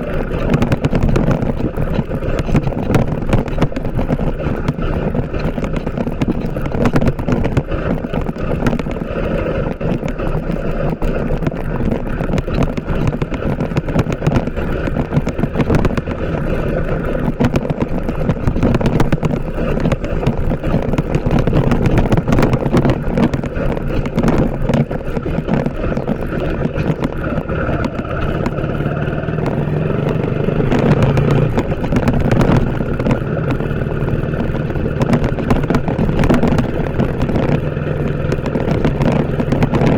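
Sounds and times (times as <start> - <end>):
motorcycle engine running: 0.0 - 39.9
rough rushing noise: 0.0 - 39.9.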